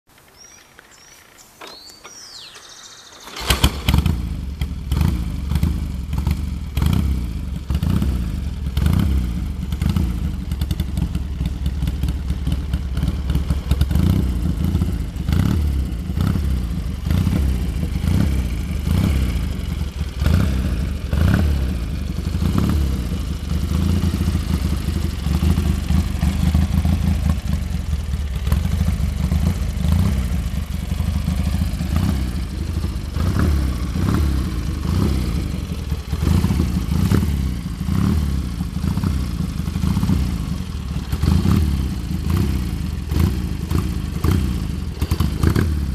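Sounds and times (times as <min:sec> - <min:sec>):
motorcycle engine revving: 0:01.8 - 0:45.9.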